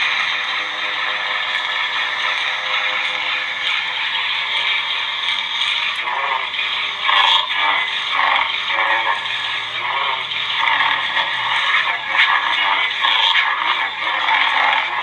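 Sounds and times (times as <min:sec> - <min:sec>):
lightsaber crackling hum: 0:00.0 - 0:15.0.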